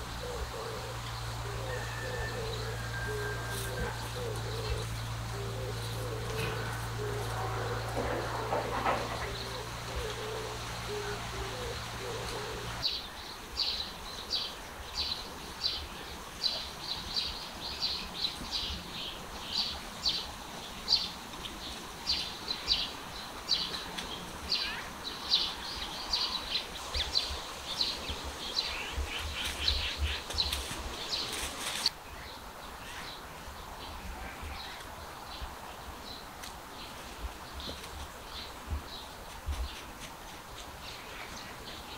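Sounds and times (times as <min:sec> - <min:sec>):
outdoor background noise: 0:00.0 - 0:41.9.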